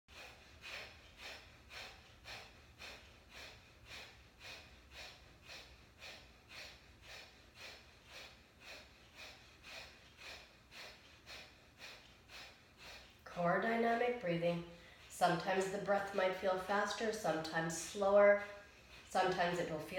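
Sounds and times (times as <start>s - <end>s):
quiet inhales: 0.1s - 14.0s, 14.6s - 17.3s, 17.9s - 19.6s.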